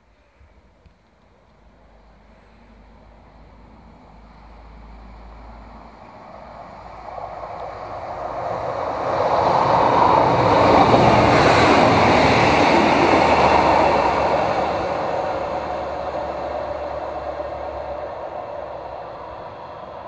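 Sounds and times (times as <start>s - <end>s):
train rumble and wheel noise: 0.0s - 20.0s.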